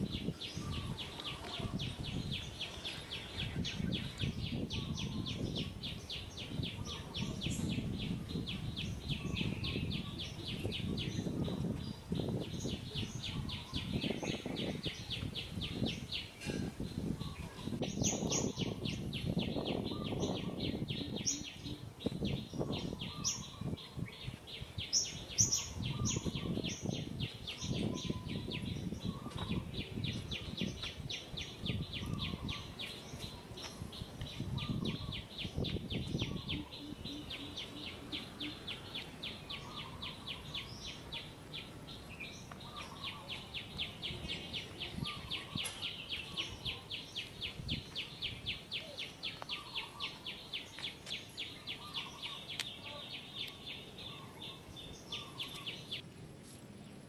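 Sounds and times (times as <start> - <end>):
bird chirps: 0.0 - 56.0.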